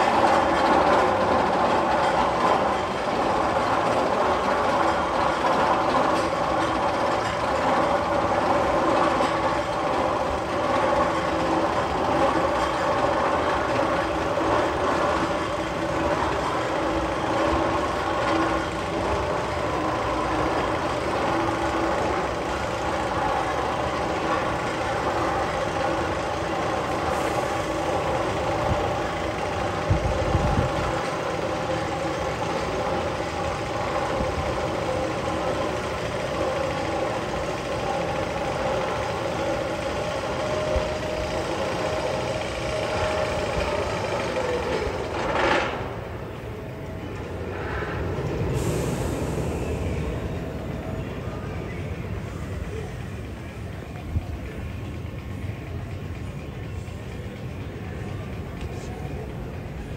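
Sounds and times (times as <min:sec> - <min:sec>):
roller coaster chain lift clatter: 0:00.0 - 0:59.9.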